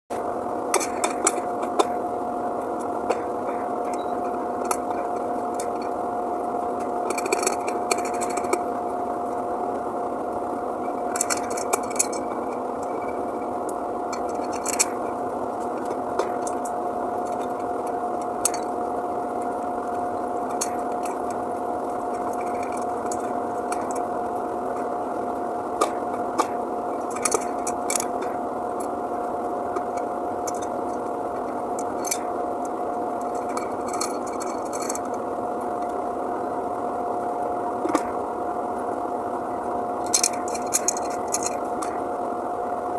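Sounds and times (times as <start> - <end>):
machine whining: 0.1 - 42.9
steady mechanical hum: 0.1 - 42.9.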